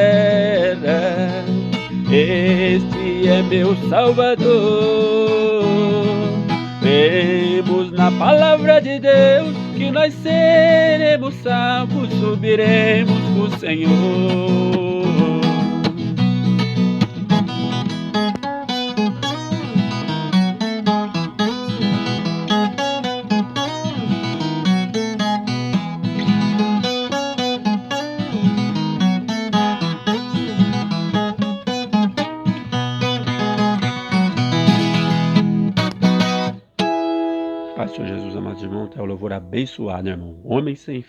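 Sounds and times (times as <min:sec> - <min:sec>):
ten-string guitar picking: 0:00.0 - 0:40.5.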